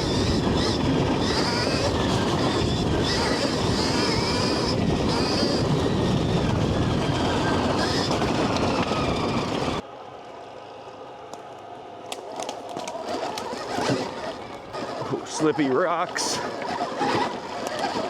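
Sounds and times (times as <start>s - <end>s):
electric motor whine: 0.0s - 9.8s, 12.7s - 18.0s
tyres rumbling over rough trail: 0.0s - 11.3s, 12.0s - 18.0s.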